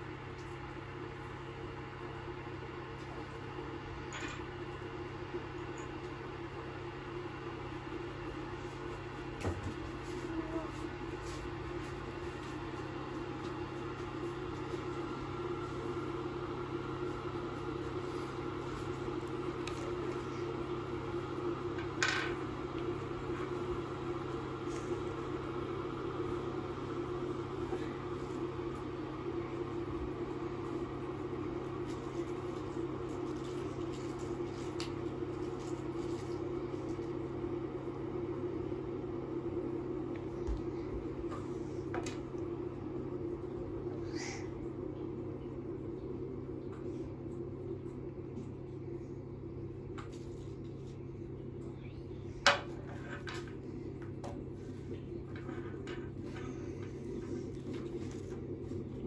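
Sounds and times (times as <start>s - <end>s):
appliance mechanical hum: 0.0s - 59.0s.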